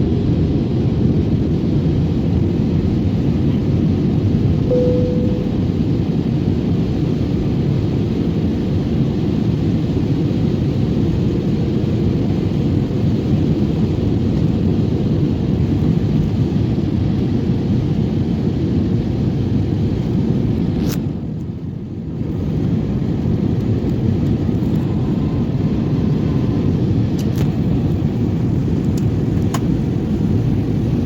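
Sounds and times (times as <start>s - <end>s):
airliner cabin engine drone: 0.0s - 31.0s.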